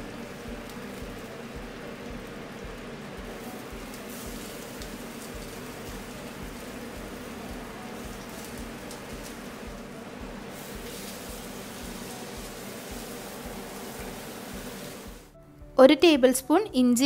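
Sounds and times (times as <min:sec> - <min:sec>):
onions sizzling in oil: 0:00.0 - 0:15.3.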